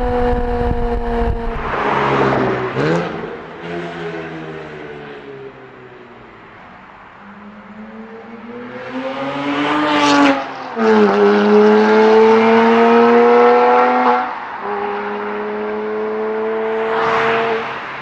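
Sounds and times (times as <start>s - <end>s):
car engine accelerating: 0.0s - 5.2s, 7.7s - 17.8s.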